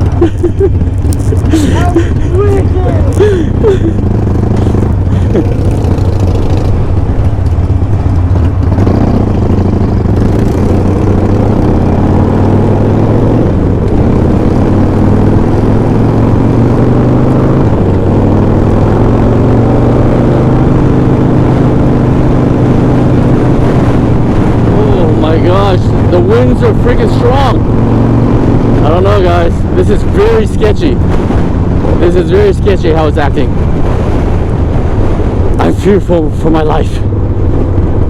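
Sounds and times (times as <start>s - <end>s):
motorcycle engine running: 0.0s - 38.0s
wind noise: 0.0s - 38.0s.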